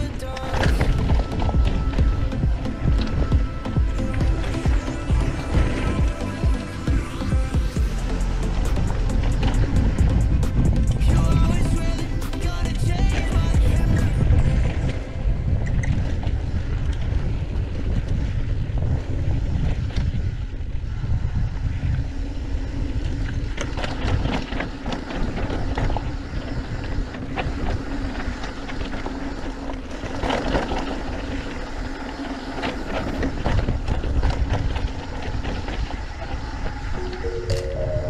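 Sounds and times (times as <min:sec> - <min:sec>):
bike rattling over bumps: 0:00.0 - 0:37.0
bike tyres on dirt and gravel: 0:00.0 - 0:37.0
wind on microphone: 0:00.0 - 0:38.0.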